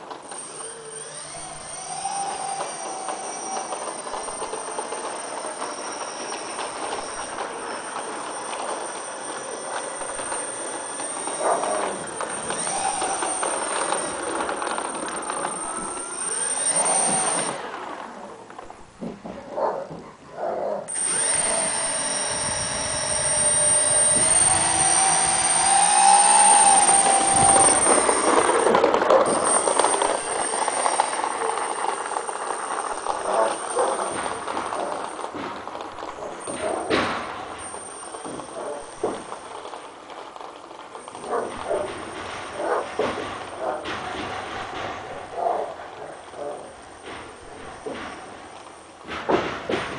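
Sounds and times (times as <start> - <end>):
electric motors whining: 0.0 - 19.0, 20.9 - 49.9.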